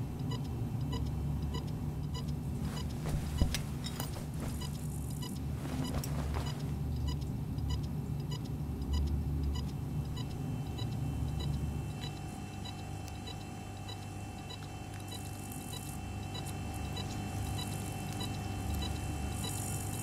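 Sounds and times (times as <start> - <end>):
faint electronic ticks: 0.0 - 20.0
low electrical hum: 0.0 - 20.0.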